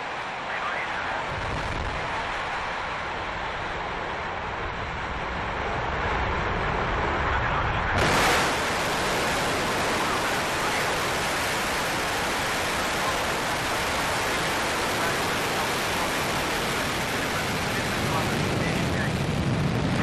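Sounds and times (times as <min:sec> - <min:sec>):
rocket engines roaring: 0:00.0 - 0:20.0.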